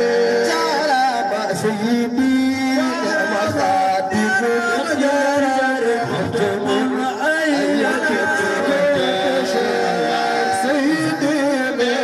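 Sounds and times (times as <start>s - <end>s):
men chanting through loudspeakers: 0.0s - 12.0s.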